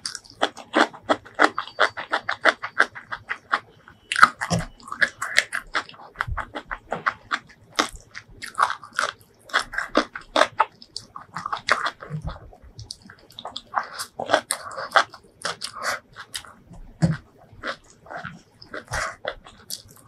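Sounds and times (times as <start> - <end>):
crunchy chewing: 0.0 - 20.0.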